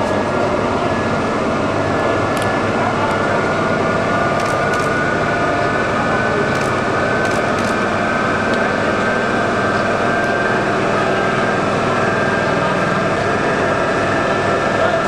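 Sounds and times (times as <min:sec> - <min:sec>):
locomotive hum with high whine: 0:00.0 - 0:15.0.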